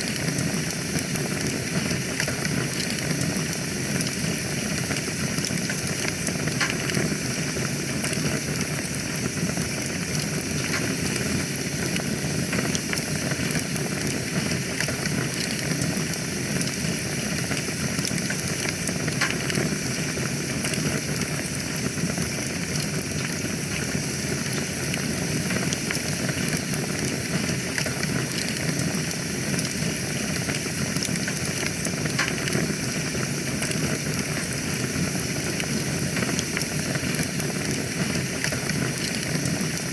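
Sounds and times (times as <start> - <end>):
fire crackles and pops: 0.0 - 39.9
wood fire hissing: 0.0 - 39.9.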